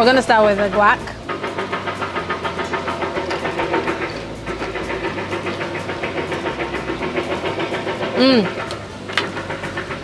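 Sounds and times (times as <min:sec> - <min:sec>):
machine running with fast pulse: 0:00.0 - 0:10.0.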